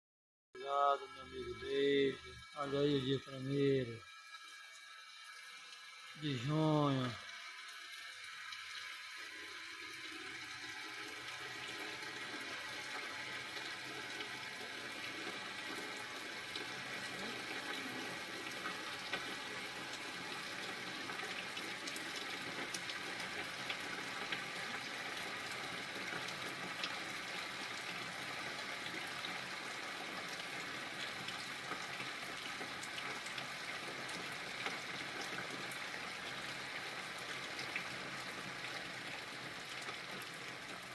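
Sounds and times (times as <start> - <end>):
steady rain hiss: 0.8 - 4.5, 5.7 - 40.9
raindrops ticking on surfaces: 1.6 - 40.9.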